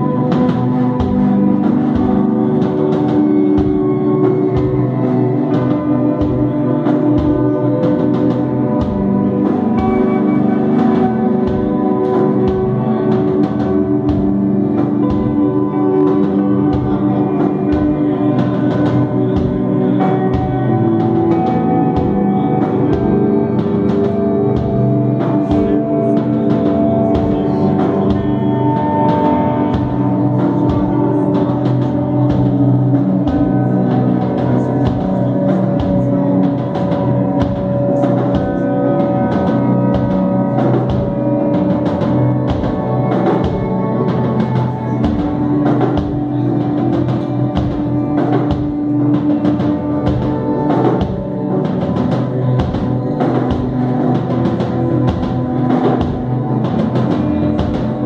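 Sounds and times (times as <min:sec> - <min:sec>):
drum hits: 0:00.0 - 0:58.0
held electric guitar notes: 0:00.0 - 0:58.0.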